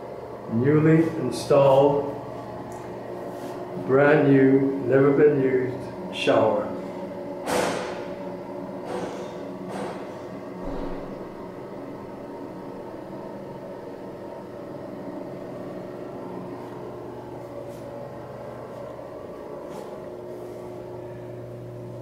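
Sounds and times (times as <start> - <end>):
droning hum with held tones: 0.0 - 22.0.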